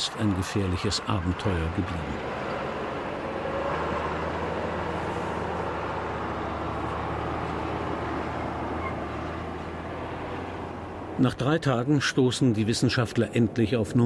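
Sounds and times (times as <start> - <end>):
off-road vehicle engine droning: 0.0 - 14.0.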